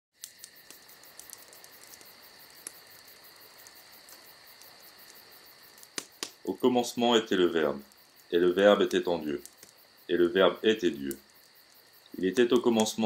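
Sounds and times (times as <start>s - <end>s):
campfire crackling: 0.1s - 13.0s
crickets chirping: 0.2s - 13.0s.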